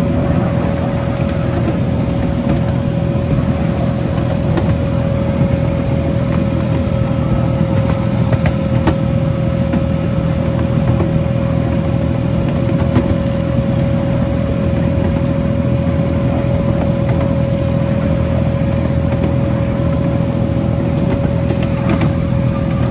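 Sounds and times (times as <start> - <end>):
locomotive engine running: 0.0 - 22.9
steady engine whine: 0.0 - 22.9.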